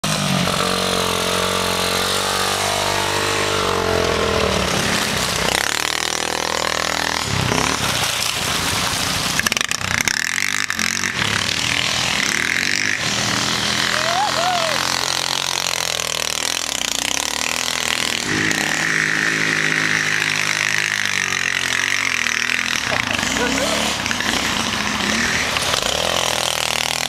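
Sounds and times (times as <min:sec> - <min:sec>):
off-road engines revving: 0:00.0 - 0:27.0.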